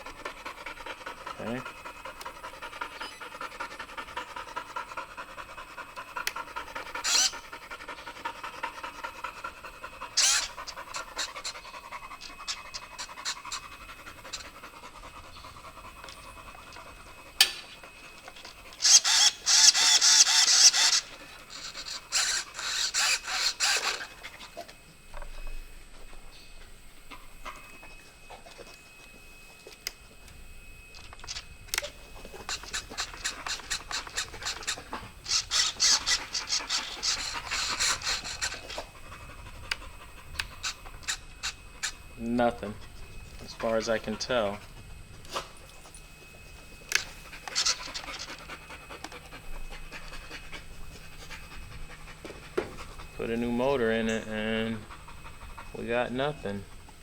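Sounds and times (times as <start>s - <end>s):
rapid panting: 0.0s - 25.1s, 31.3s - 57.0s.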